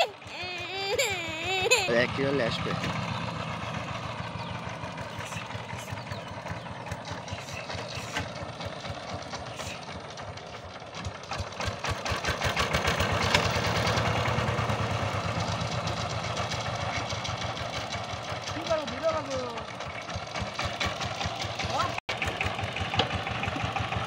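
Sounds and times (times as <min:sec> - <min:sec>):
diesel tiller engine knocking: 0:00.0 - 0:24.0.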